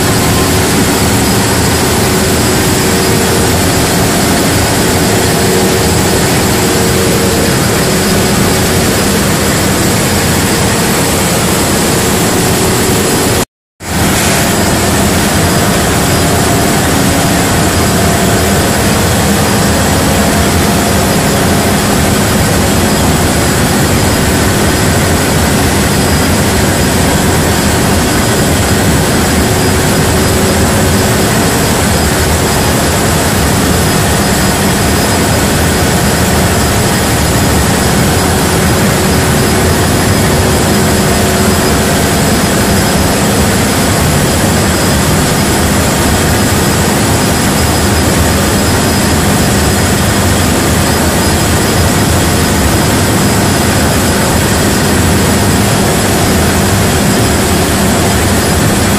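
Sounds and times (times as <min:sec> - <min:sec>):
diesel generators running: 0:00.0 - 0:58.9.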